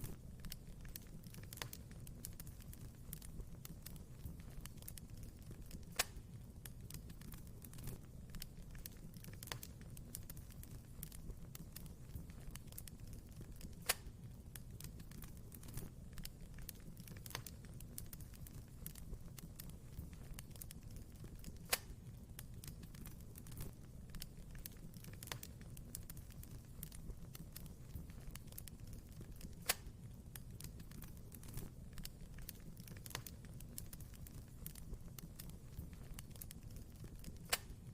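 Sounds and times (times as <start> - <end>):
low rumble of flames: 0.0 - 37.9
wood fire crackling: 0.0 - 37.9.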